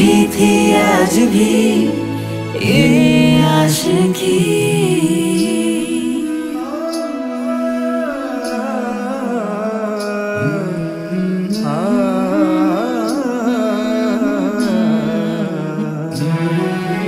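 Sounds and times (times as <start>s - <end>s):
gliding melody: 0.0s - 17.0s.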